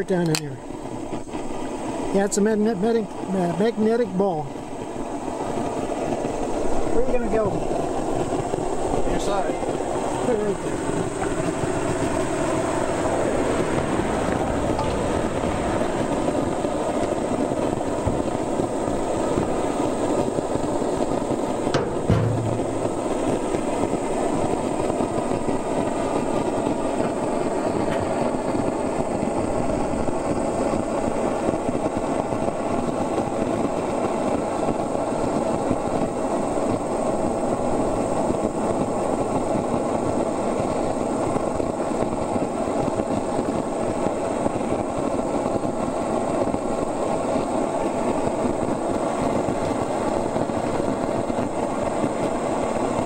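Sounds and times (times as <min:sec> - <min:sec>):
steady mechanical roar: 0:00.0 - 0:53.0.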